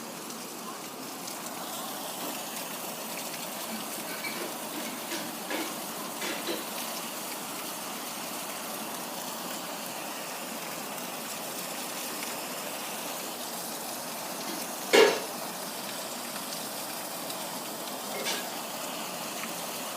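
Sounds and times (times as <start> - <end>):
steady rain falling: 0.0 - 19.9.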